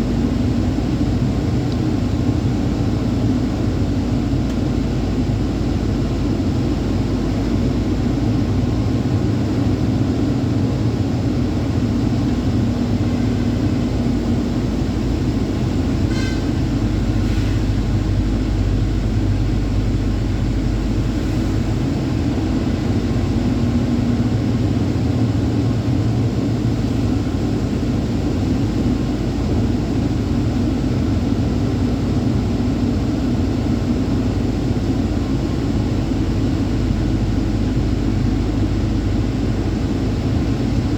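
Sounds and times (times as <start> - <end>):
road noise: 0.0 - 40.9
truck engine driving: 0.0 - 40.9.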